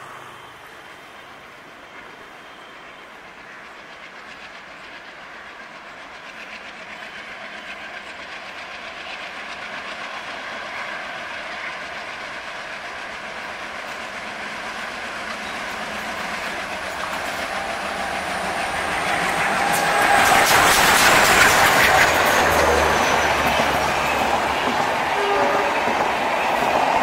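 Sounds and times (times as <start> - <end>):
train approaching: 0.0 - 27.0.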